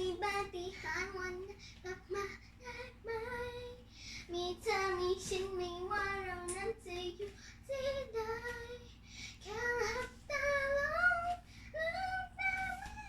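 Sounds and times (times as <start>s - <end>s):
child singing unaccompanied: 0.0s - 8.8s, 9.4s - 13.0s.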